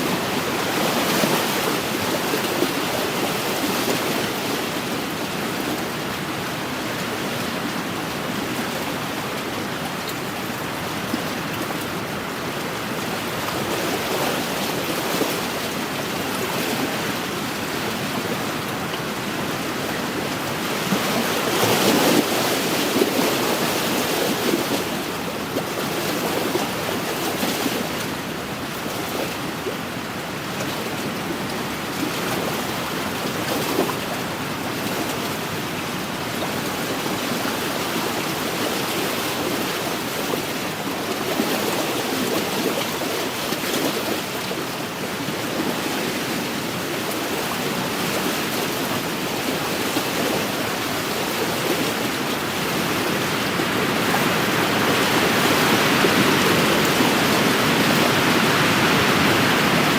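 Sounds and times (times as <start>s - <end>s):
waves lapping on shore: 0.0s - 59.9s.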